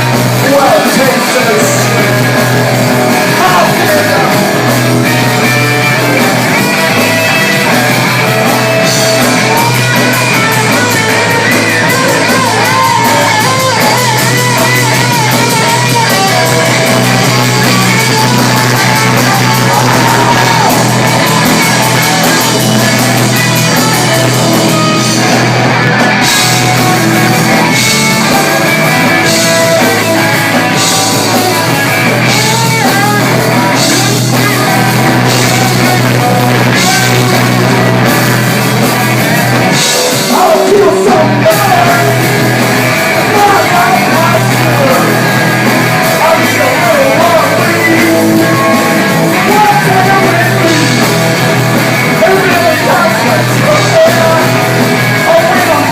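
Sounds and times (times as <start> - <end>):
punk rock band playing: 0.0 - 55.9
shouted vocals: 0.0 - 55.9.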